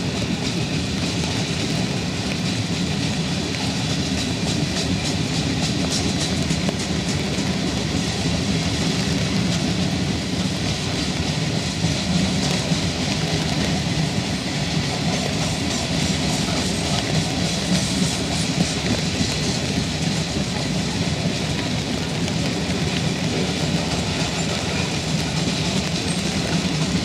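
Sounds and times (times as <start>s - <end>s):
train rumble: 0.0s - 27.0s
train wheels clicking over rail joints: 0.0s - 27.0s.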